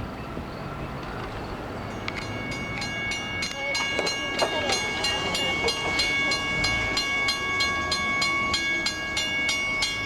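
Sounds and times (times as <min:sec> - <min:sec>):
train rumble: 0:00.3 - 0:10.0
crossing bell ringing rapidly: 0:01.9 - 0:10.0.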